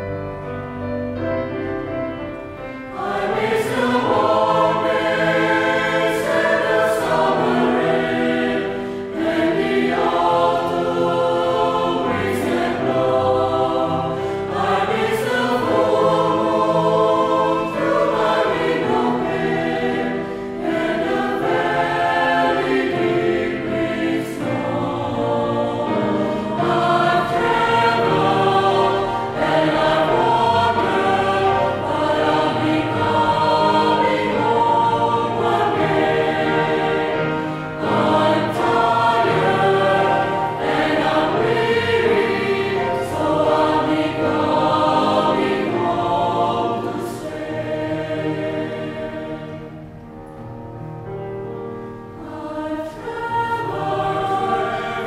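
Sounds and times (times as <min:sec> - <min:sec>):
grand piano: 0:00.0 - 0:55.0
mixed choir singing: 0:01.4 - 0:55.0.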